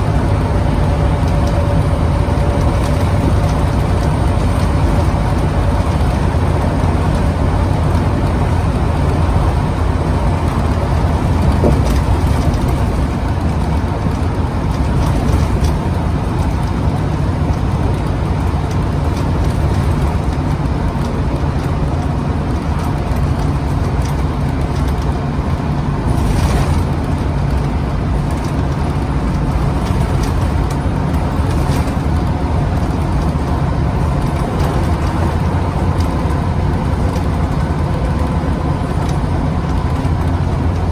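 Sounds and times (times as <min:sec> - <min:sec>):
bus diesel engine droning: 0:00.0 - 0:40.9
road noise: 0:00.0 - 0:40.9.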